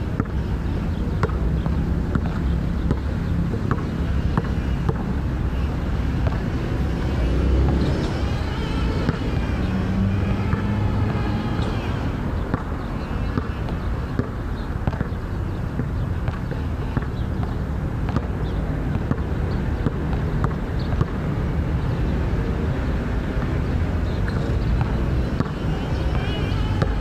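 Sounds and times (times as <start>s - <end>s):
basketball bouncing on hard court: 0.0s - 9.6s, 10.2s - 21.3s, 24.3s - 27.0s
low engine hum: 0.0s - 27.0s.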